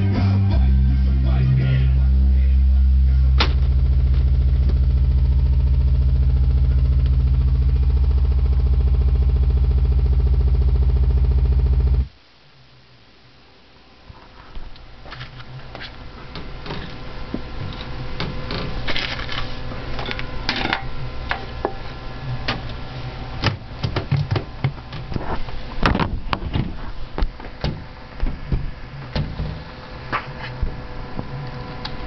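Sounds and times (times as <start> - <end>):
computer humming: 0.0 - 32.0.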